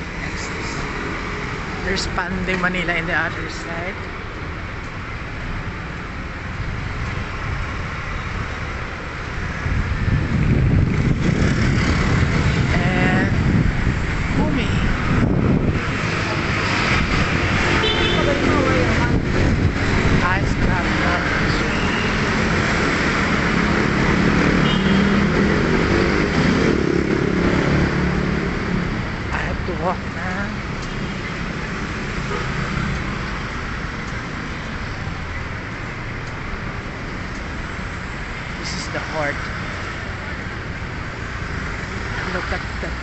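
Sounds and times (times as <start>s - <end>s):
city traffic noise: 0.0s - 43.0s.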